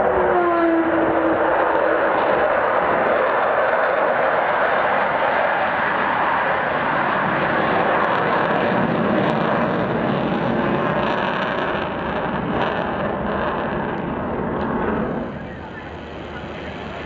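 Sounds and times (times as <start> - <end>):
jet aircraft flying past: 0.0 - 17.0.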